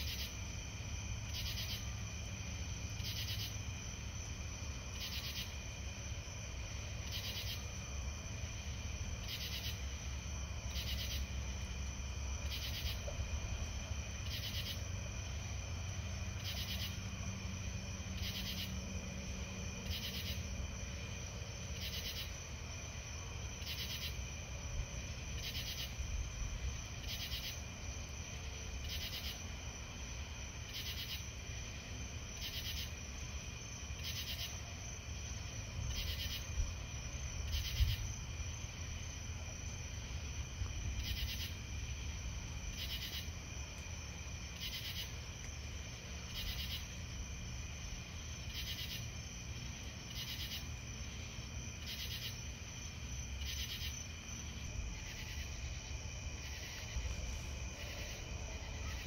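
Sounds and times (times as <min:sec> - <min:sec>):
insects trilling: 0:00.0 - 0:59.0
raspy insect call: 0:00.0 - 0:59.0.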